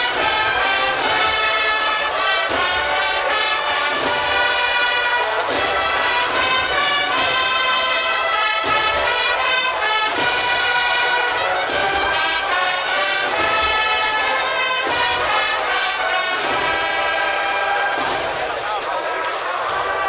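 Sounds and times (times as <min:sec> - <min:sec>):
brass chords: 0:00.0 - 0:20.0
drum strokes: 0:00.0 - 0:20.0.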